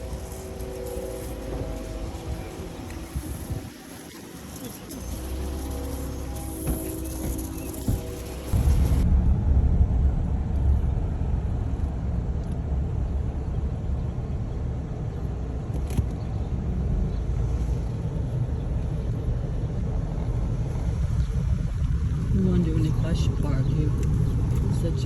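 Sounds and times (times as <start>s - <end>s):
car driving low rumble: 0.0s - 25.0s.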